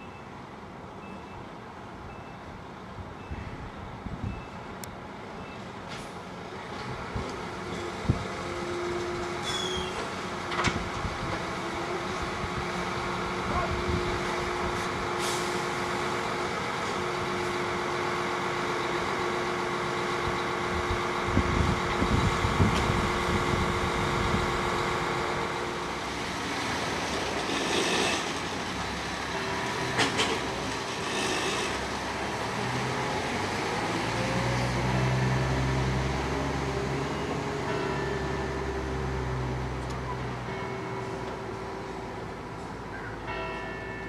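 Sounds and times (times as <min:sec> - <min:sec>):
suspension railway mechanical hum: 0:00.0 - 0:44.0.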